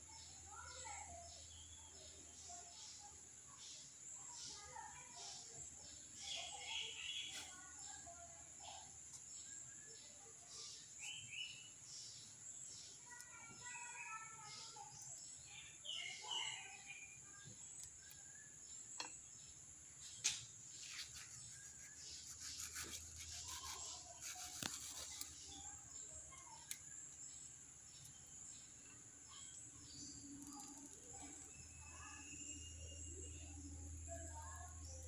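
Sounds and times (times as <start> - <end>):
faint bird chirps: 0.0 - 35.0.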